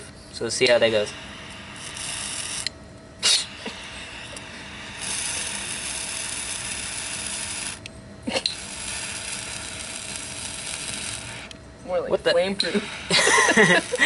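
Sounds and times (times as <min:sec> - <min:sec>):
torch flame hissing: 0:00.0 - 0:11.6, 0:12.6 - 0:14.0.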